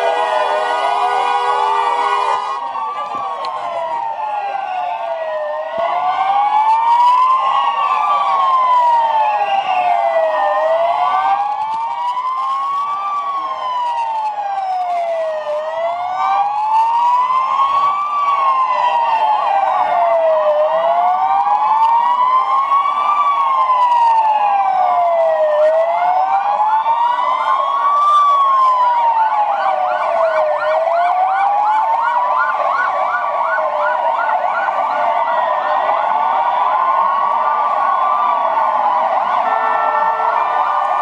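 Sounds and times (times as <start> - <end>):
fast warbling siren: 0.0 - 41.0
police sirens wailing: 0.0 - 41.0.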